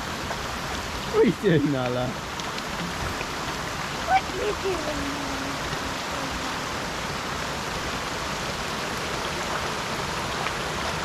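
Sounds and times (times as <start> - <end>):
rain falling: 0.0 - 11.0
river water rushing: 0.0 - 11.0.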